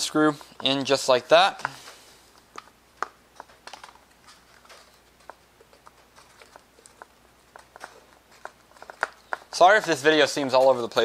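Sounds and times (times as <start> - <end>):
foam and plastic parts clicking: 0.2 - 11.0.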